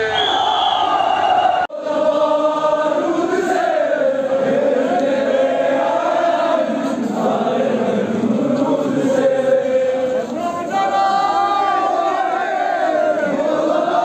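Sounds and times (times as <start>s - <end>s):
crowd chanting: 0.0s - 14.0s.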